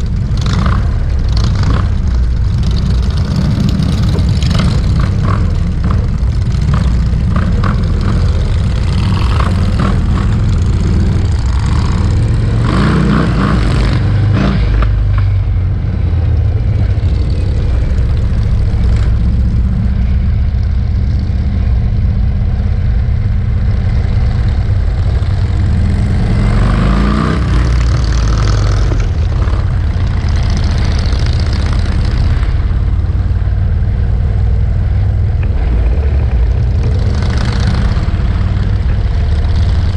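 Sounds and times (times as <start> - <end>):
motorcycle engines rumbling: 0.0 - 39.9
motorcycle revving: 0.0 - 39.9.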